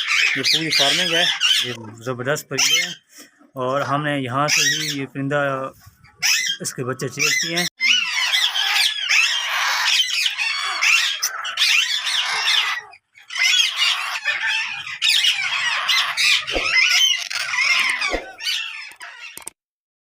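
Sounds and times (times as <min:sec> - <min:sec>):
parrots squawking: 0:00.0 - 0:03.1, 0:04.4 - 0:05.2, 0:06.0 - 0:19.5.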